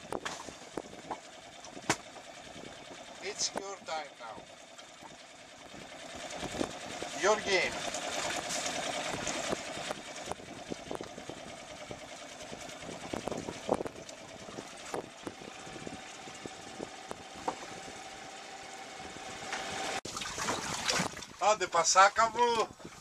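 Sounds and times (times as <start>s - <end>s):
outboard motor idling: 0.0s - 23.0s.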